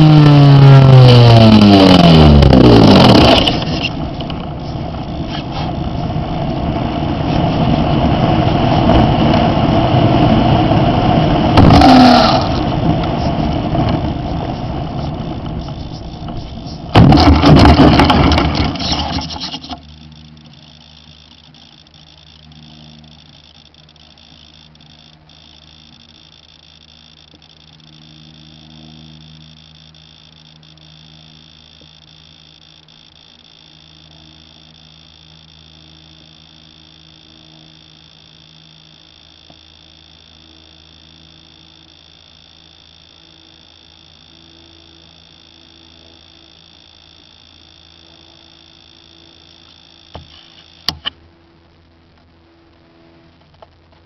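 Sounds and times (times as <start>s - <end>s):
faint steady hum: 0.0s - 54.0s
model airplane engine running: 0.0s - 54.0s.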